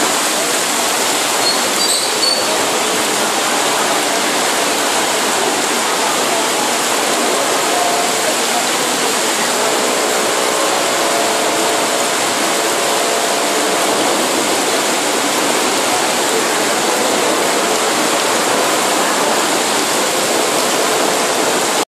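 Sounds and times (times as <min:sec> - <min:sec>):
heavy rain pouring on street: 0:00.0 - 0:21.9.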